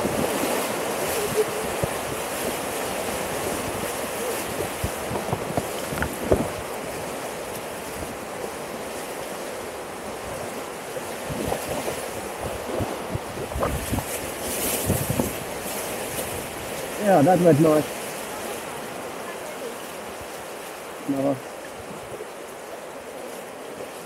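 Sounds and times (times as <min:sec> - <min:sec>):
paddle strokes: 0:00.0 - 0:24.0
waves splashing against boat: 0:00.0 - 0:24.0
whitewater rapids rushing: 0:00.0 - 0:24.0.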